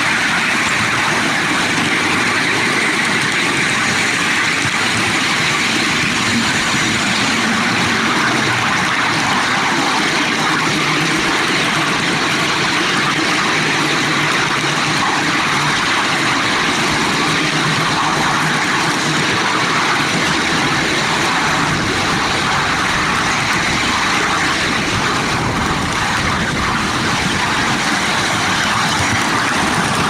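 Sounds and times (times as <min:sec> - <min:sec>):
miniature train running: 0:00.0 - 0:30.0.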